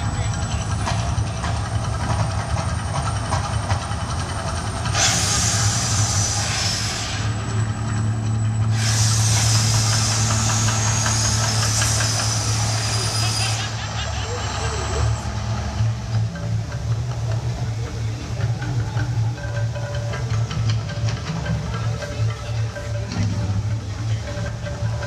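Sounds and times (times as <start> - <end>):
steady low hum: 0.0 - 25.0
hissing blasts: 3.9 - 24.9.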